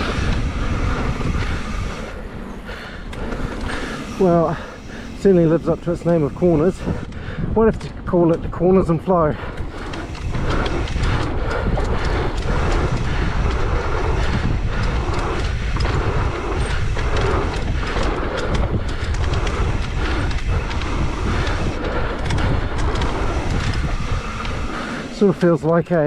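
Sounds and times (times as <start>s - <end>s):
bike rattling clicks: 0.0s - 26.0s
bike tyres rumbling on dirt: 0.0s - 26.0s
rushing air: 0.0s - 26.0s.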